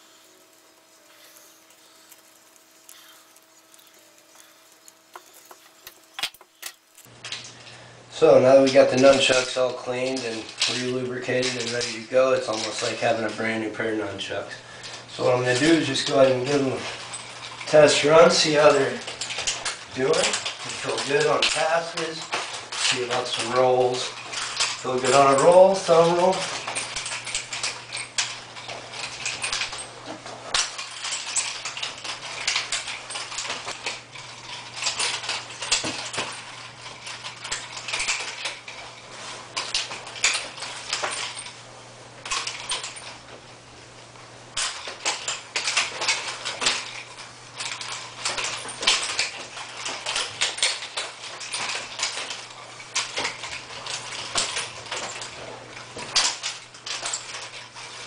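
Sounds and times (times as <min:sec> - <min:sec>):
nunchaku chain jingling and clicking: 0:00.0 - 0:07.1, 0:15.1 - 0:41.6, 0:44.6 - 0:58.0.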